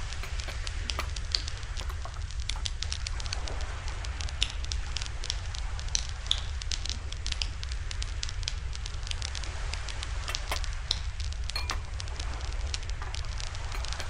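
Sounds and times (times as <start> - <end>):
campfire crackling and popping: 0.0 - 13.7.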